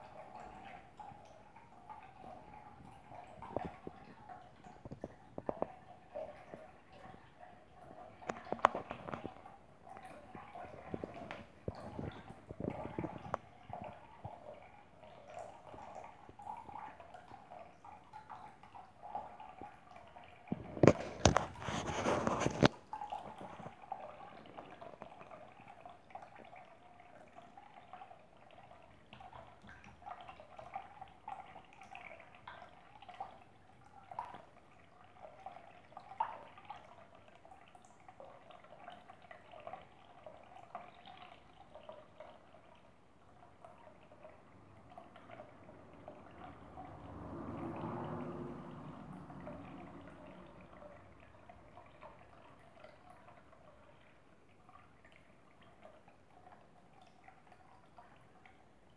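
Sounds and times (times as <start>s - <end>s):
water drips and plinks: 0.0s - 58.9s
water trickling into a bowl: 0.0s - 58.9s.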